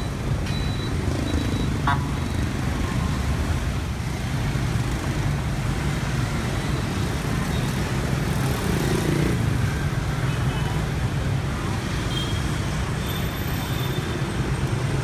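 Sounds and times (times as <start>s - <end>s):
motor scooter traffic: 0.0s - 15.0s.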